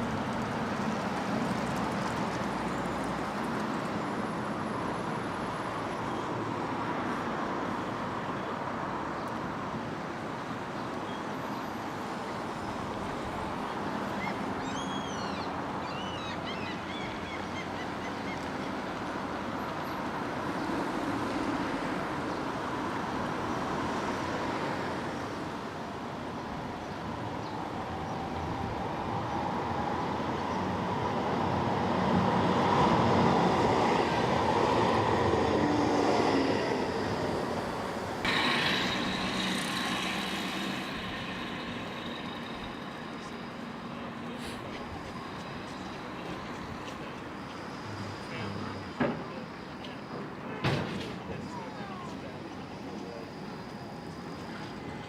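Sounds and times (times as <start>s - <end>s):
street traffic: 0.0s - 55.0s.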